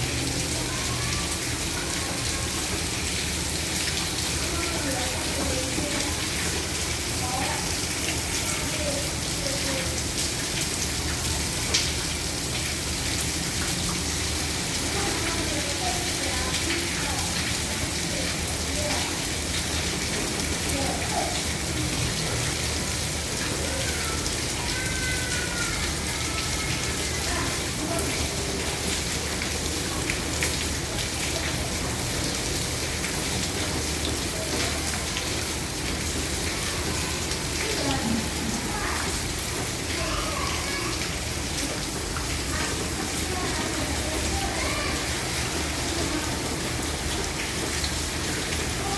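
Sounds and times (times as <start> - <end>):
heavy rain on a roof: 0.0 - 48.9
rain drops splashing: 0.0 - 48.9.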